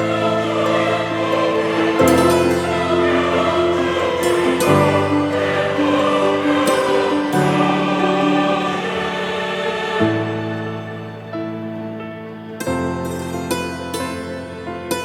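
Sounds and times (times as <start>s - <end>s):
choir singing held chords: 0.0s - 14.7s
musical accompaniment: 0.0s - 15.0s.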